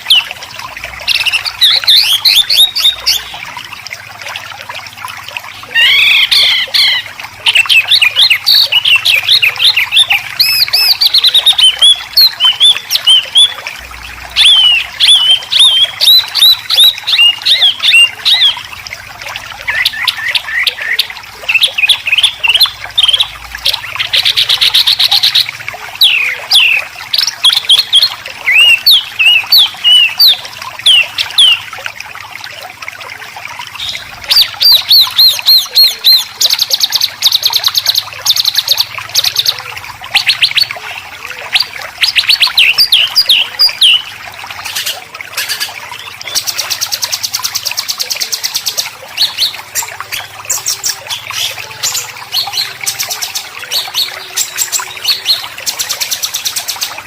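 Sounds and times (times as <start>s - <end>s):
songbird singing: 0.0s - 3.5s, 5.6s - 18.8s, 19.6s - 31.8s, 33.8s - 57.0s.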